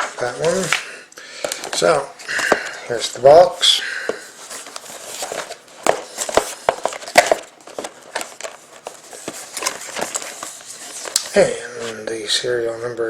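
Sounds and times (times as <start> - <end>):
light cardboard crinkling: 1.4 - 12.2.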